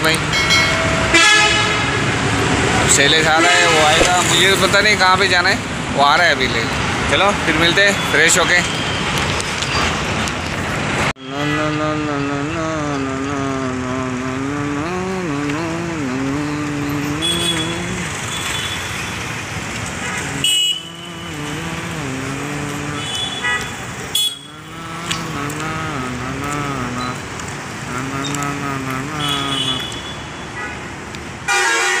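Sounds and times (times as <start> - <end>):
city road traffic: 0.0 - 32.0.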